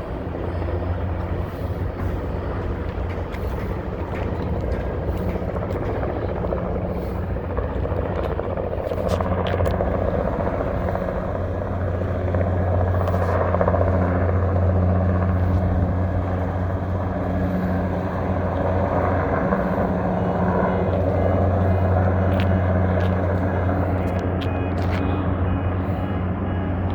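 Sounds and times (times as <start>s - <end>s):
helicopter rotor and turbine: 0.0s - 26.9s.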